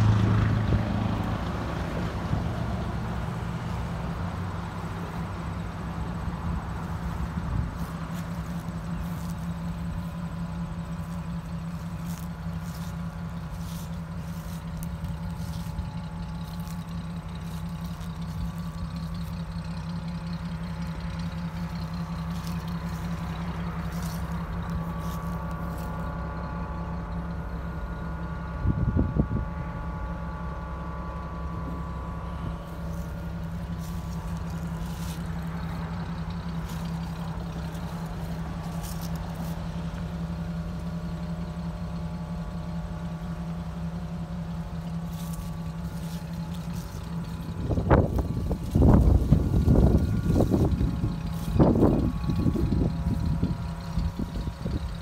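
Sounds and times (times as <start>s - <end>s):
low engine burst: 0.0s - 55.0s
pickup engine idling: 0.0s - 55.0s.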